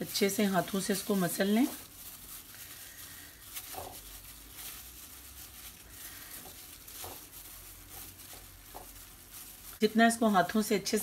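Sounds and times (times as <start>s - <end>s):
gloved hand patting in flour: 0.0s - 11.0s.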